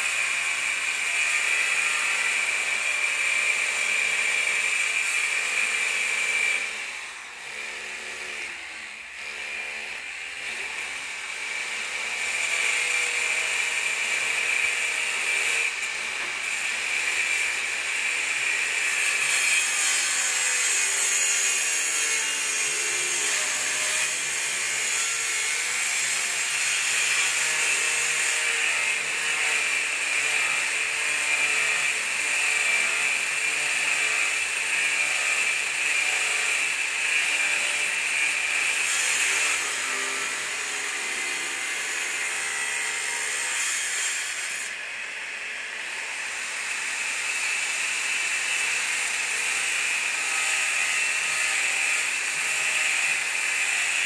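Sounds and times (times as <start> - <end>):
power tool running: 0.0 - 54.0.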